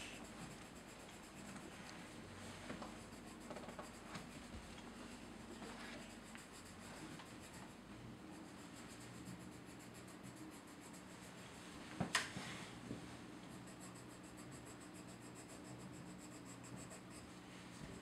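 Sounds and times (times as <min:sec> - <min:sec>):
pencil crayon scratching on paper: 0:00.0 - 0:11.8, 0:13.3 - 0:18.0.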